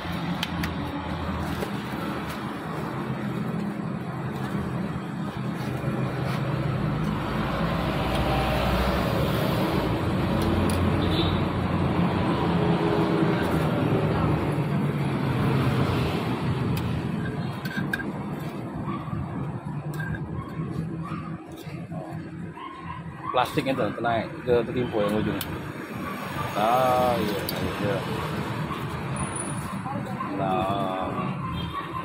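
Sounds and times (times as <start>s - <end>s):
passing vehicle engines: 0.0s - 32.0s.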